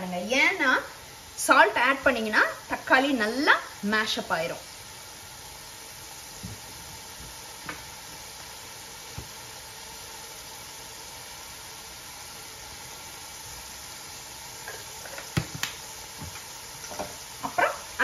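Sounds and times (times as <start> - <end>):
paste sizzling in oil: 0.0 - 18.0.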